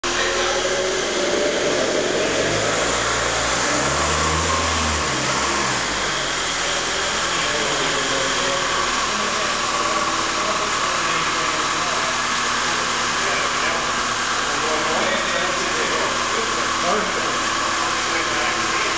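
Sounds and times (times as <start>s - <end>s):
forklift engine running: 0.0s - 18.9s.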